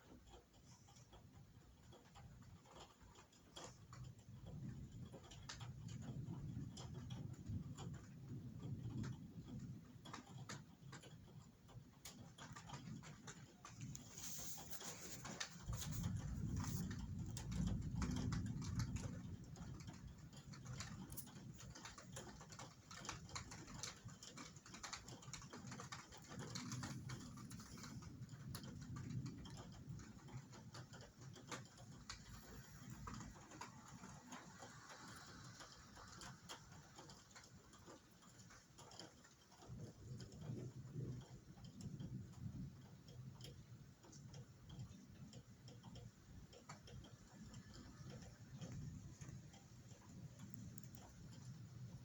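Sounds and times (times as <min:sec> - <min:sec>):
rain drops on hard surface: 0:00.0 - 0:52.0
low rumble of thunder: 0:03.6 - 0:37.8, 0:39.6 - 0:45.4, 0:46.4 - 0:52.0.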